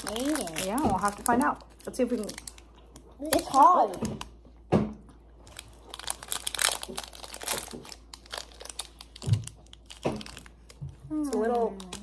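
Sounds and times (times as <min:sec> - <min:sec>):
plastic wrapper crinkling: 0:00.0 - 0:04.4, 0:05.3 - 0:12.0.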